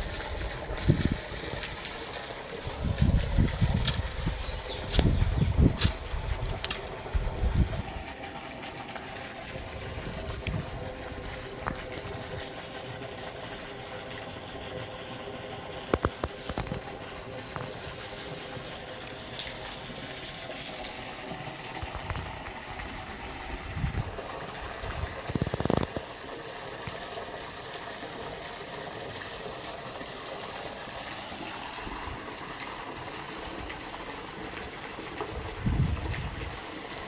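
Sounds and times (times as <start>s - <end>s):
flowing water rushing: 0.0s - 37.0s.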